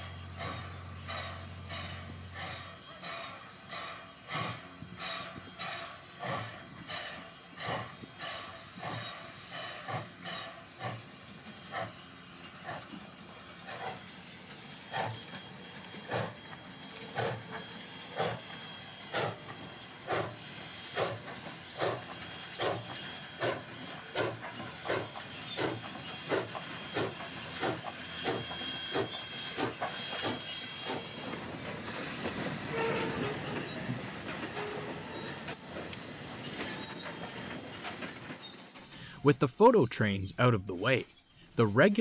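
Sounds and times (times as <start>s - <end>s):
freight cars rumbling on rails: 0.0s - 42.0s
steam locomotive exhaust chuffing: 0.0s - 42.0s.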